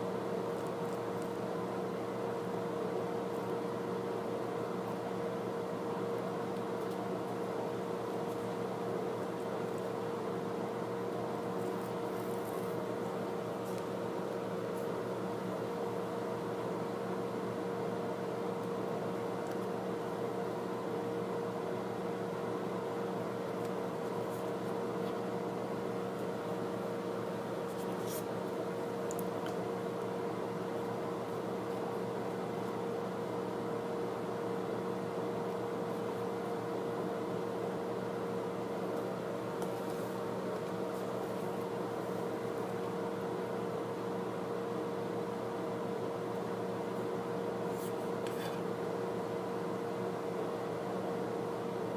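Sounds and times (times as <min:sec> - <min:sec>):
steady machine hum: 0:00.0 - 0:51.9.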